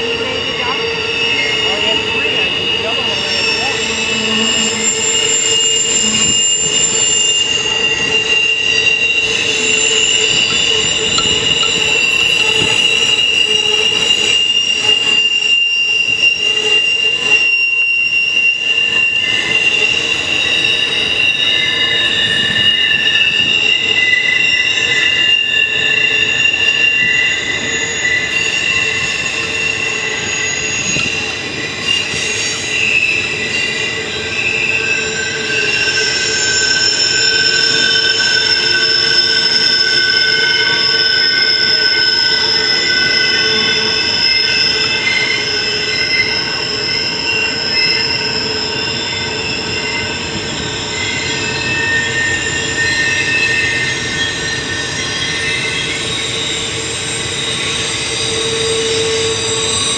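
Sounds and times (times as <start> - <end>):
rumble of freight cars: 0.0 - 59.9
train wheels squealing on rails: 0.0 - 59.9.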